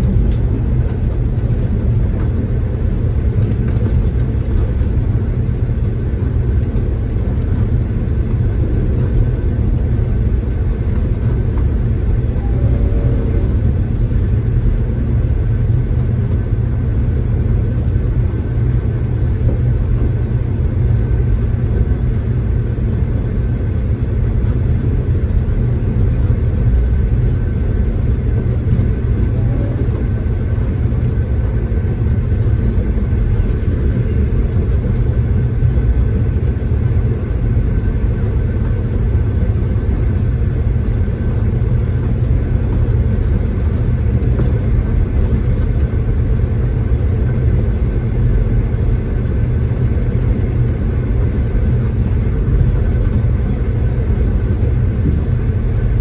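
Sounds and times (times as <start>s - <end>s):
train interior rumble: 0.0s - 56.0s.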